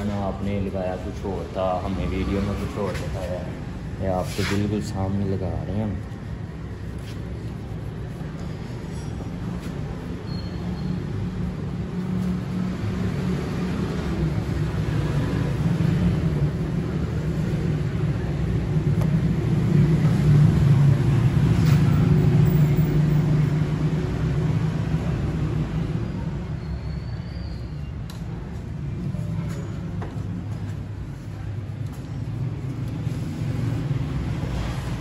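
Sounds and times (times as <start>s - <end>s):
vehicle engines rumbling: 0.0s - 35.0s.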